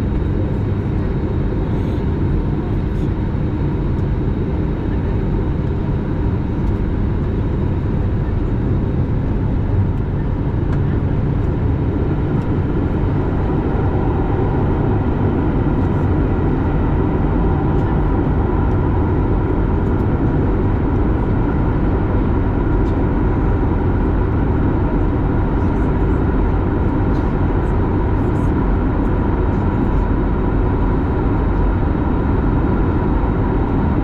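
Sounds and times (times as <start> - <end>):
airliner low rumble: 0.0 - 34.0.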